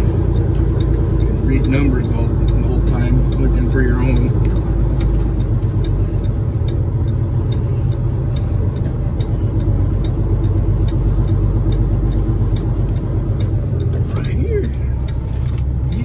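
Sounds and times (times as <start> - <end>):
diesel truck engine rumbling: 0.0 - 16.0
faint ticking: 0.0 - 16.0.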